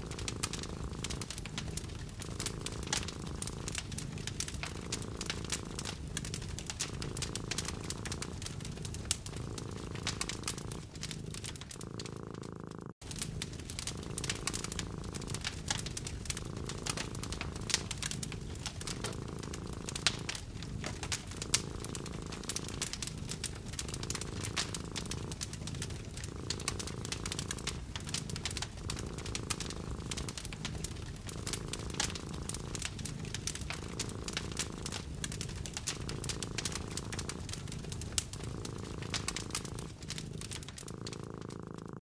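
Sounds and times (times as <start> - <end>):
cat purring: 0.0 - 42.0
wood fire crackling: 0.0 - 42.0.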